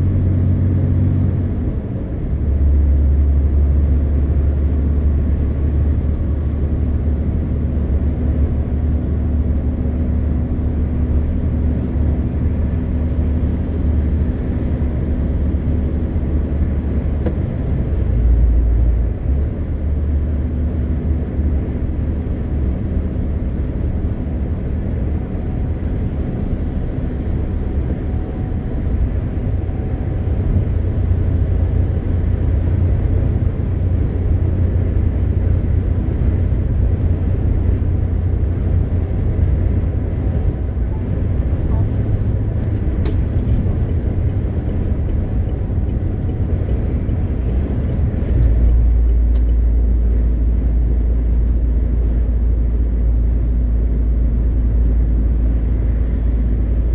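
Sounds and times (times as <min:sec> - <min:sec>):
road noise: 0:00.0 - 0:56.9
truck diesel engine drone: 0:00.0 - 0:56.9.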